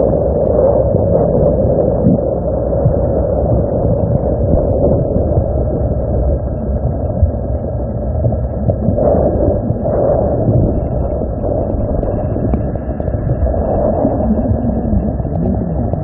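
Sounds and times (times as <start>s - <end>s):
river water underwater rumble: 0.0s - 16.0s.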